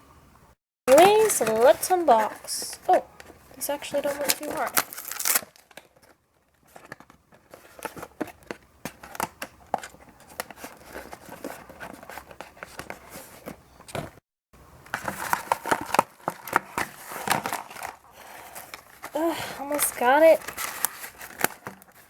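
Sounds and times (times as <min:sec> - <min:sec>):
packaging crinkling and crackling: 0:00.9 - 0:13.6, 0:14.9 - 0:22.0.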